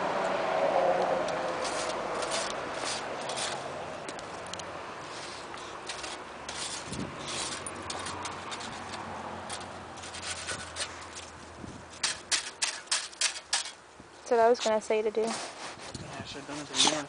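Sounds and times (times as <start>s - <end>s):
rubbing and rustling: 1.4s - 13.8s, 14.6s - 17.0s.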